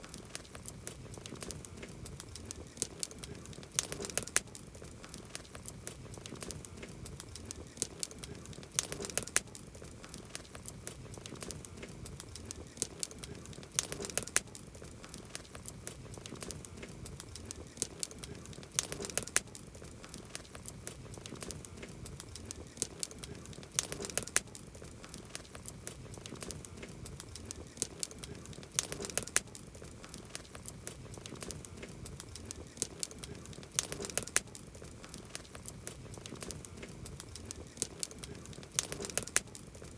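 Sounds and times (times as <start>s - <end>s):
wood campfire crackling: 0.0s - 39.9s.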